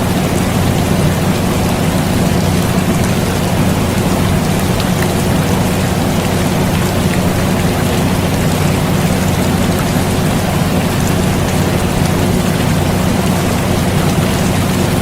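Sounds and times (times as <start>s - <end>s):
air conditioner humming: 0.0s - 15.0s
steady rain falling: 0.0s - 15.0s.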